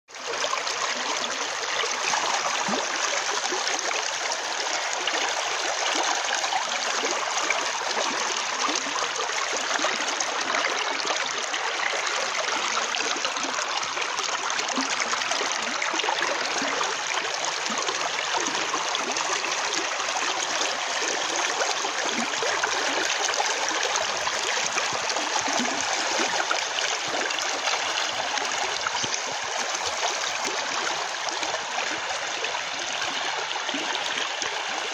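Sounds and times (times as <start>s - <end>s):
stream flowing over stones: 0.1s - 34.9s.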